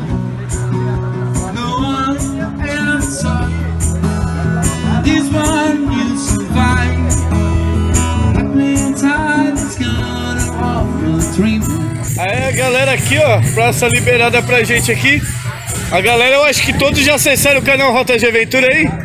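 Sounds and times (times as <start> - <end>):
acoustic guitar strumming: 0.0 - 19.0
man singing into a microphone: 1.3 - 17.7.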